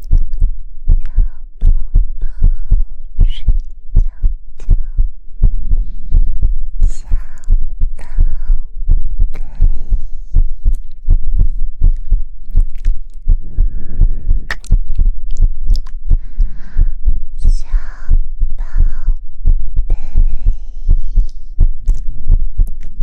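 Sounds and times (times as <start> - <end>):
soft rhythmic low thumps: 0.0 - 23.0.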